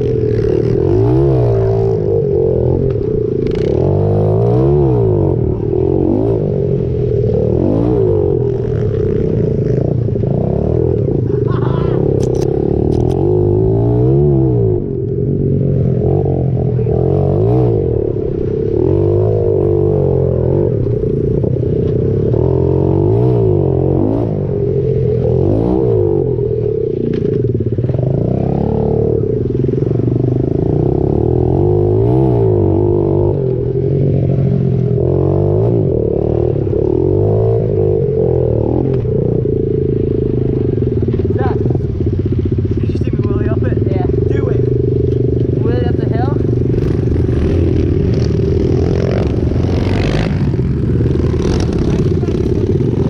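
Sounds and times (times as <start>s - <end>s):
motorbike engine revving: 0.0s - 53.0s.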